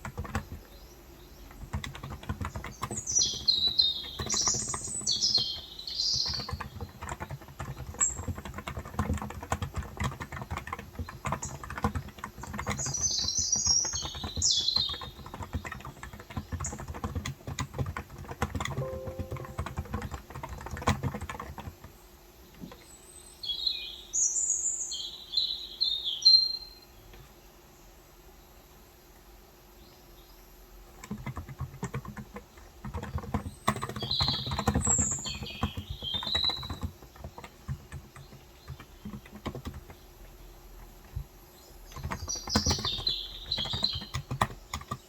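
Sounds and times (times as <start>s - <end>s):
soft keyboard typing: 0.0s - 22.9s, 30.8s - 45.0s
birds chirping: 0.0s - 27.2s, 31.0s - 45.0s.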